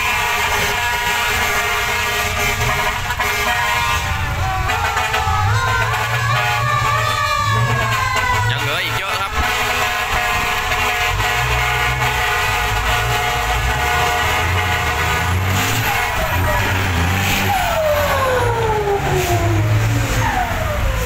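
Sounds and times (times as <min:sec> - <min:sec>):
diesel truck engines revving: 0:00.0 - 0:21.0.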